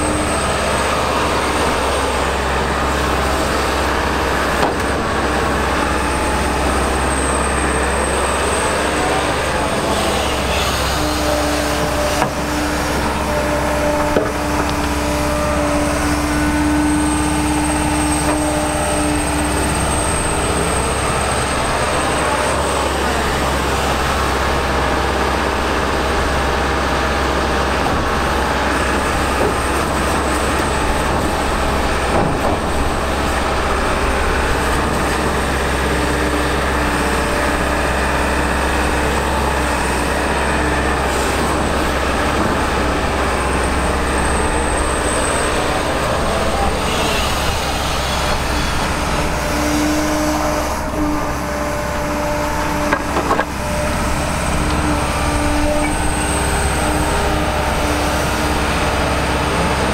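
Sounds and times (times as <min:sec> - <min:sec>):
excavator engine and hydraulics: 0:00.0 - 0:59.9.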